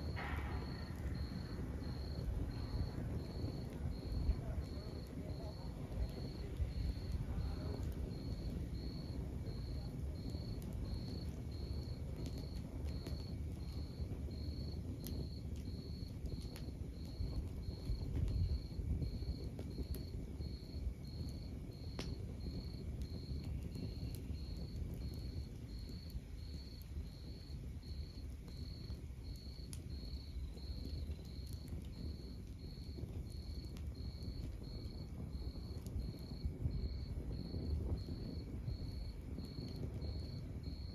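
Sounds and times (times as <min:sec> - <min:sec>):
fire flames rumbling: 0:00.0 - 0:40.9
logs crackling and popping: 0:00.0 - 0:40.9.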